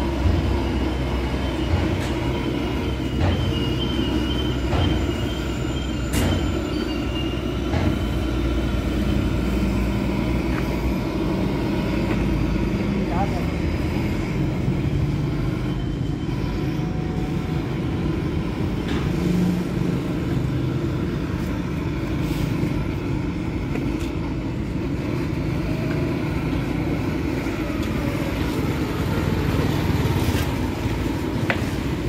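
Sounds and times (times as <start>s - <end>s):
engine droning at low speed: 0.0s - 32.0s.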